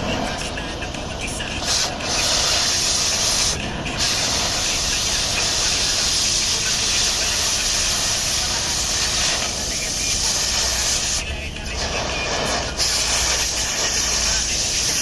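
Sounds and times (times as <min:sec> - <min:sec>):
compressed air hissing from air gun: 0:01.6 - 0:15.0.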